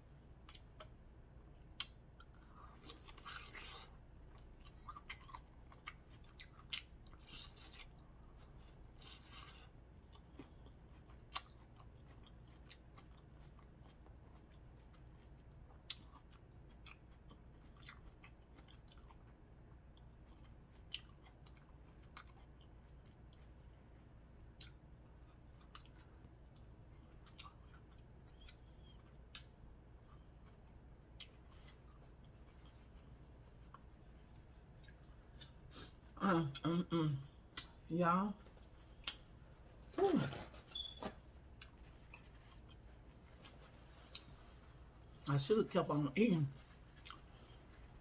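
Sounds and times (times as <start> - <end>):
soft chewing: 0.0 - 48.0.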